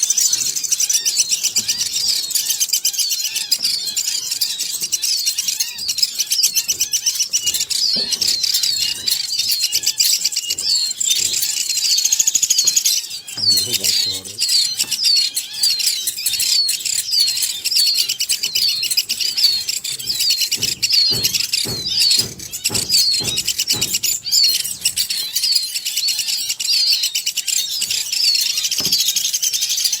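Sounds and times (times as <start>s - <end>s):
baby woodpecker calling: 0.0s - 30.0s.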